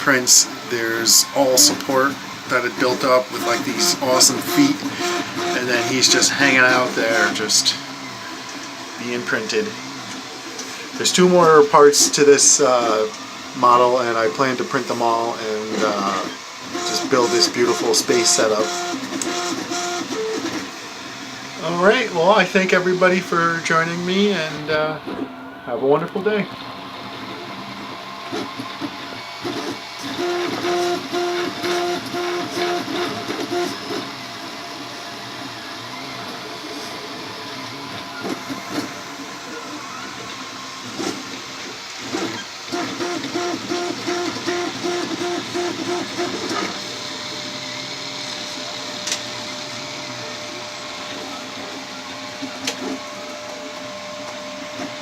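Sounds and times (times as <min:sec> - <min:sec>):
printer background hum: 0:00.0 - 0:55.0
stepper motors singing: 0:00.0 - 0:55.0.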